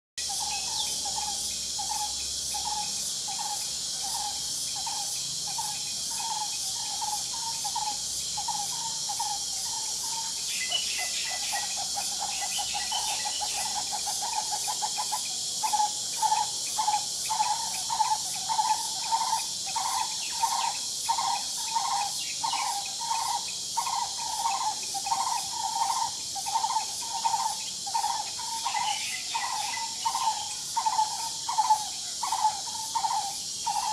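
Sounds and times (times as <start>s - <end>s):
bird calling: 0.2s - 33.9s
insects droning: 0.2s - 33.9s.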